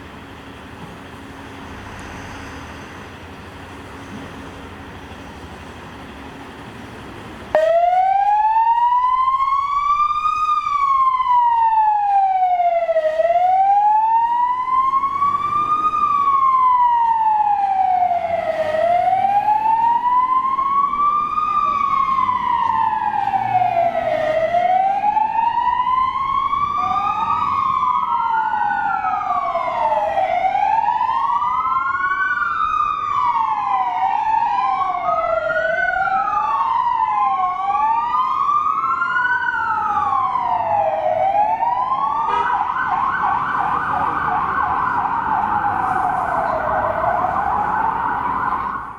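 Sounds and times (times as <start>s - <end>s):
fire sirens wailing: 0.0s - 48.9s.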